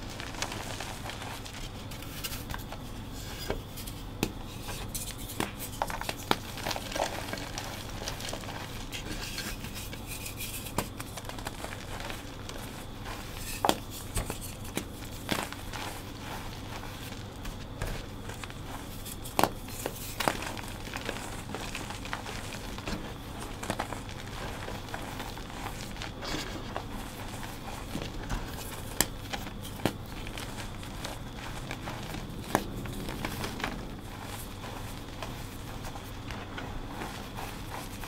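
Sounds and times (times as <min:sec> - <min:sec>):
chalk crunching and crumbling: 0:00.0 - 0:38.0
chalk chunks cracking: 0:03.4 - 0:38.0.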